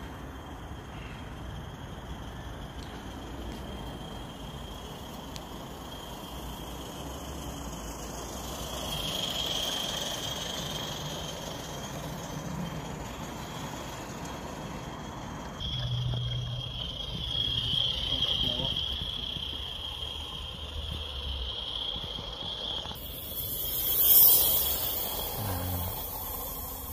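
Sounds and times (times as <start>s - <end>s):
high-pitched whine: 0.0s - 26.9s
model steam locomotive running: 0.0s - 26.9s.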